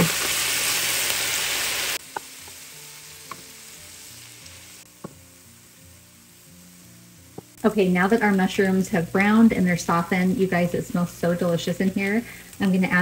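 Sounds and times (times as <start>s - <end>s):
mushrooms sizzling in pan: 0.0s - 13.0s.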